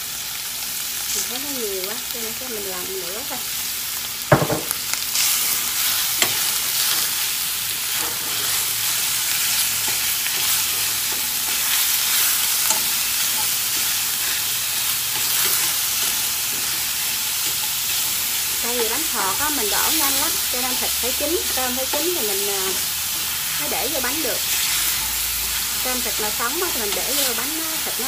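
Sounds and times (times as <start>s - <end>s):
meat and onion sizzling in oil: 0.0s - 28.0s.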